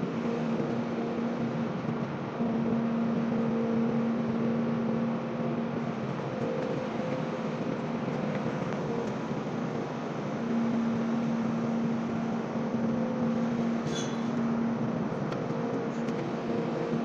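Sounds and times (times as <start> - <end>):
low machinery tone: 0.0 - 17.0
machinery hum: 0.0 - 17.0.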